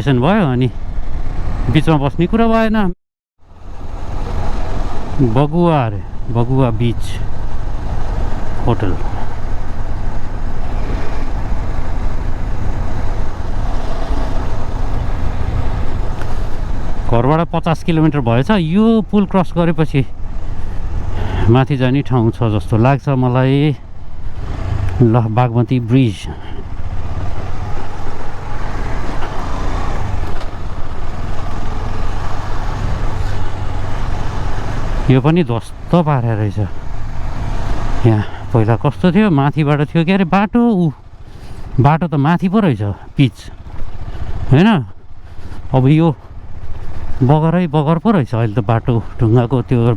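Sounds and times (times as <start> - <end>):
motorcycle engine running: 3.4 - 49.9.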